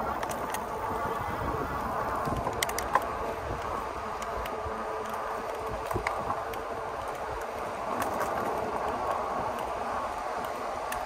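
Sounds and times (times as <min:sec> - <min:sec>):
wind and tyre noise: 0:00.0 - 0:11.0
faint clicks: 0:02.1 - 0:11.0.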